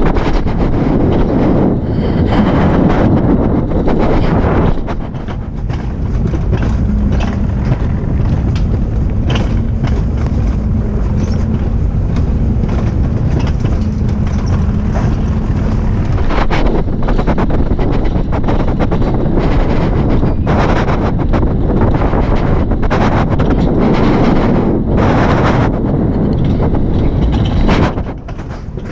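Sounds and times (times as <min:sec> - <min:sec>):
hum: 0:00.0 - 0:28.9
knocks and rattles: 0:00.0 - 0:28.9
moving vehicle rumble: 0:00.0 - 0:28.9.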